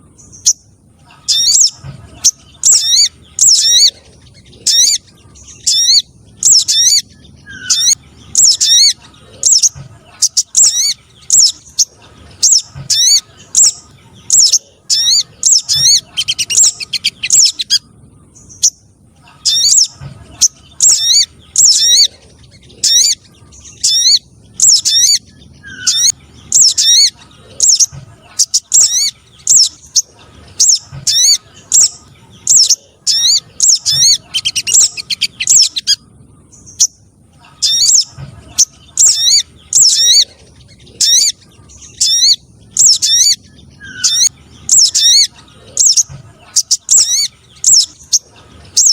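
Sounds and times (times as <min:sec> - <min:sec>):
high bird chirps: 0:00.0 - 0:48.9.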